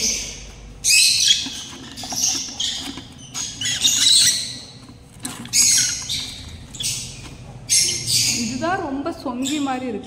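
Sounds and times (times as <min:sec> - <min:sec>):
lovebirds screeching: 0:00.0 - 0:10.0.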